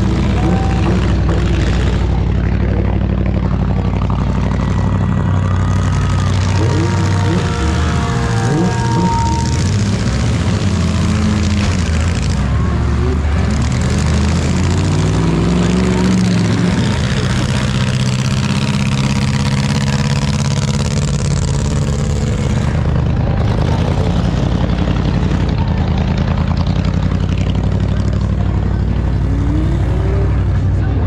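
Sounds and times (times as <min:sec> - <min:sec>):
car engines running loudly: 0:00.0 - 0:31.0.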